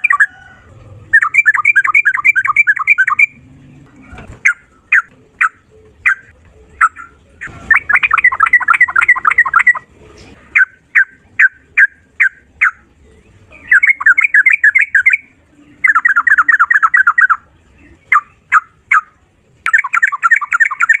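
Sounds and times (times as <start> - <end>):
bulbul singing: 0.0 - 9.9, 10.5 - 21.0.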